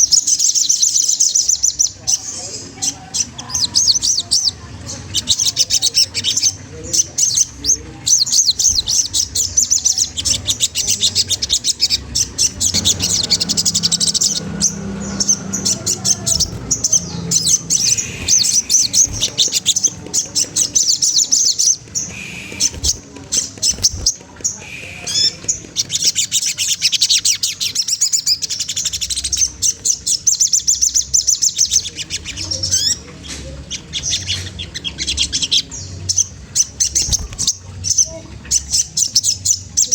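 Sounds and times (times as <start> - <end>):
tailorbird singing: 0.0 - 39.9.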